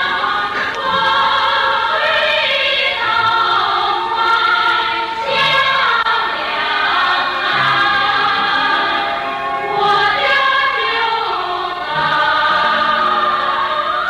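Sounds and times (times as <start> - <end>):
choir singing sustained lines: 0.0 - 14.0.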